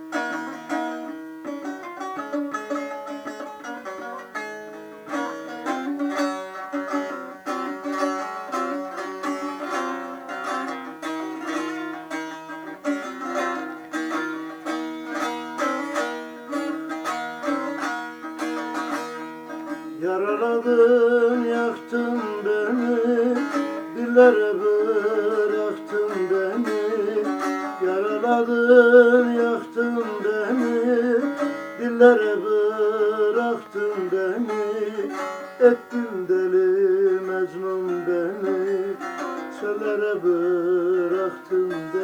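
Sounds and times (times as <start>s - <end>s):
plucked string instrument: 0.0s - 42.0s.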